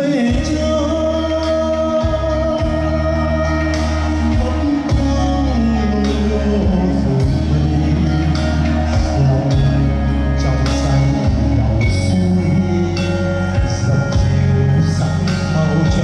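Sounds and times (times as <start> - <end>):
person singing: 0.0 - 16.0
sustained bass notes: 0.0 - 16.0.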